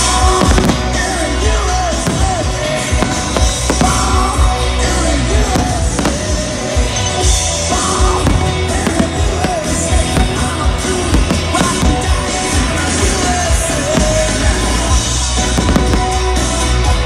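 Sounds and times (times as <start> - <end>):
fireworks bursting: 0.0 - 17.0
loud music with singing: 0.0 - 17.0.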